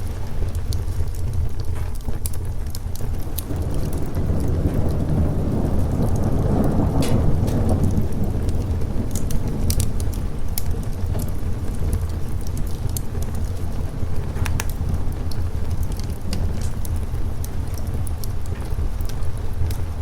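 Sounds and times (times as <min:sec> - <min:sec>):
steady rain: 0:00.0 - 0:20.0
thunder rumbling: 0:00.0 - 0:20.0
wood fire crackling and popping: 0:00.0 - 0:20.0.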